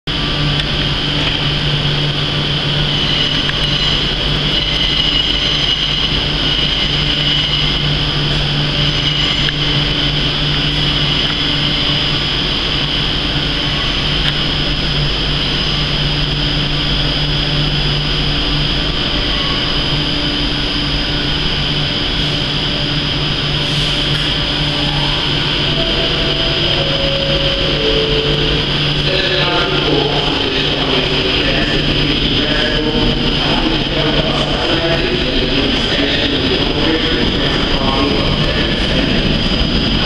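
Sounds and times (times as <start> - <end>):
train electrical drone and whine: 0.1 - 40.0.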